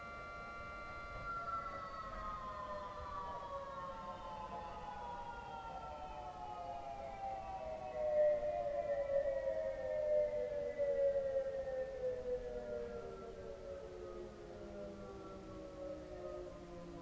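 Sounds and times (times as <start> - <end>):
civil defense siren: 0.0 - 17.0.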